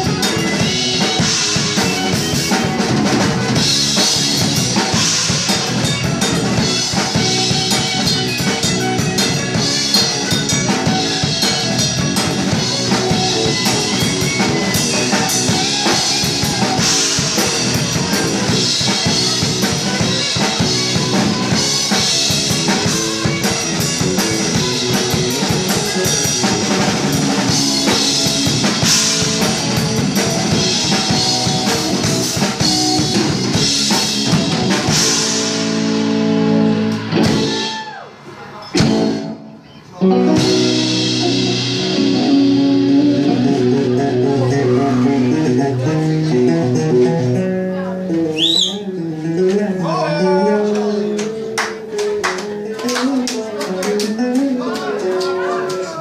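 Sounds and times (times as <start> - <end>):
electric bass: 0.0 - 38.0, 38.8 - 54.6
drum kit: 0.0 - 56.0
electric guitar: 0.0 - 56.0.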